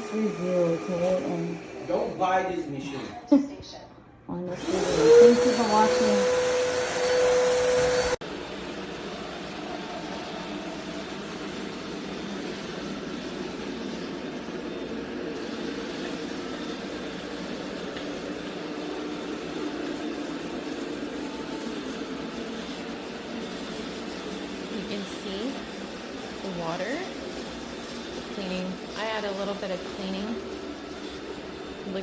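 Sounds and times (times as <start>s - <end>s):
loud vacuum: 0.0s - 3.1s, 4.4s - 32.0s
robot vacuum motor hum: 4.5s - 32.0s.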